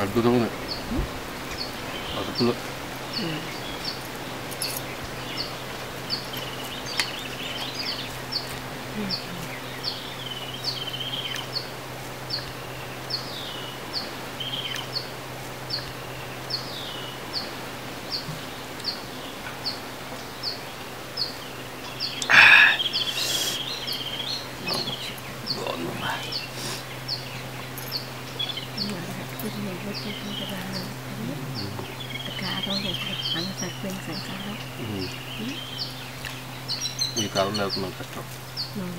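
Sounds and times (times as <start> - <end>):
bird chirping: 0.0 - 38.9
birds warbling: 0.0 - 38.9.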